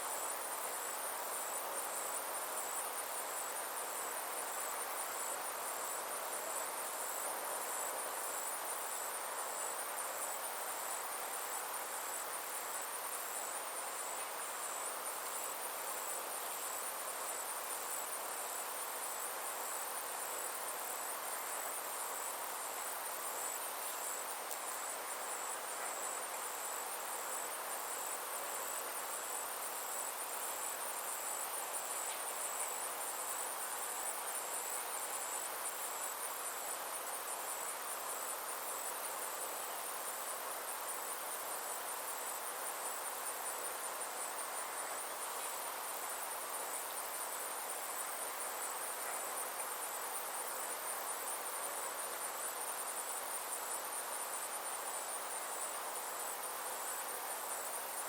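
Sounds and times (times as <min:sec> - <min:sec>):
insects trilling: 0:00.0 - 0:58.0
soft outdoor hiss: 0:00.0 - 0:58.0.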